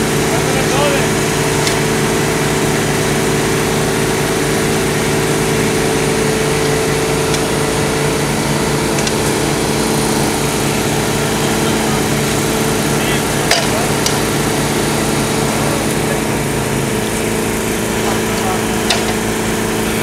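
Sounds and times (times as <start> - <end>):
heavy machinery engine drone: 0.0 - 20.0.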